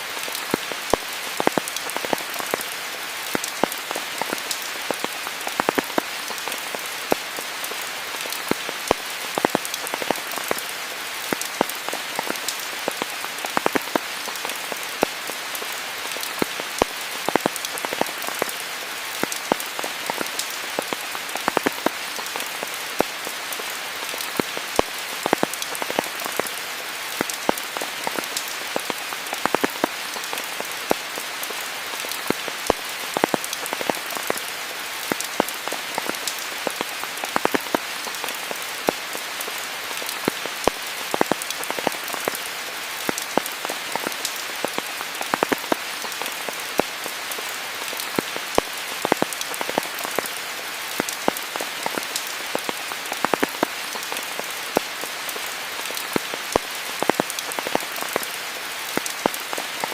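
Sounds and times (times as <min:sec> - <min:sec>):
rain hiss: 0:00.0 - 0:59.9
sharp raindrop impacts: 0:00.0 - 0:59.9.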